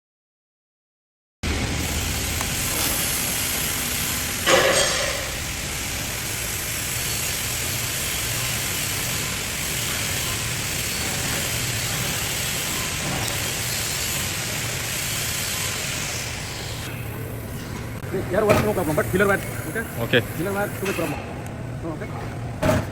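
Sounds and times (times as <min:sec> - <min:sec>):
electric welding arc crackling: 0:01.4 - 0:20.9.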